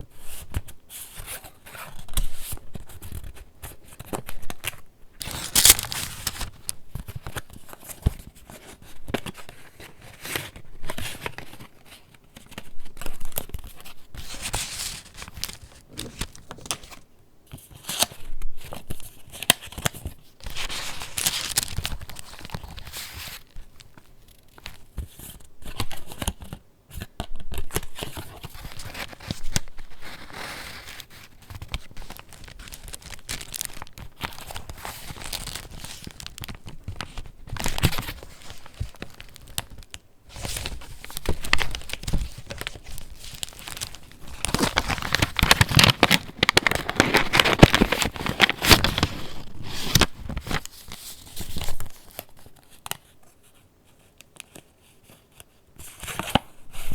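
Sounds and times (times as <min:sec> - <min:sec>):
paper pages rustling and crinkling: 0:00.1 - 0:56.9.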